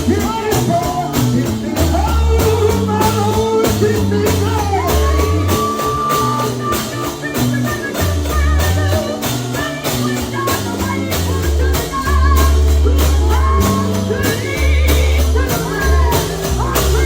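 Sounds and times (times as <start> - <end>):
drum kit steady beat: 0.0 - 17.0
held bass notes: 0.0 - 17.0
voices singing: 0.0 - 17.0.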